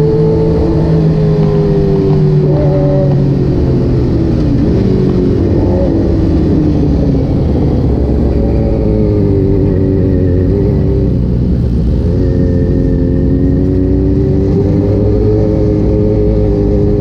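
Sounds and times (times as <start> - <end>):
motorcycle engine running: 0.0 - 17.0
road rumble: 0.0 - 17.0.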